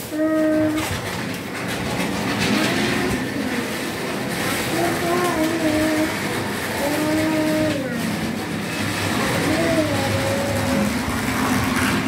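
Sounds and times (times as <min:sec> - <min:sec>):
wheels rolling on rails: 0:00.0 - 0:12.0.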